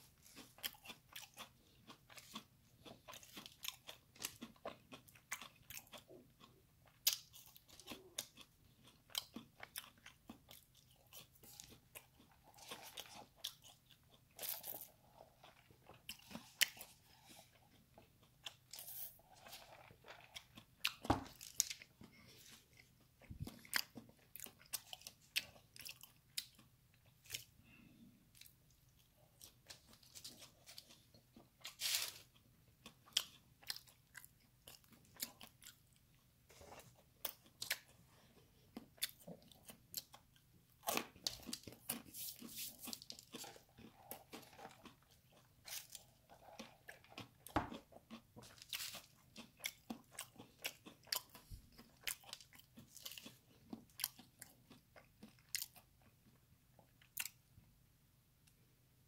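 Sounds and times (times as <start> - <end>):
person chewing crispy food: 0.0 - 57.5.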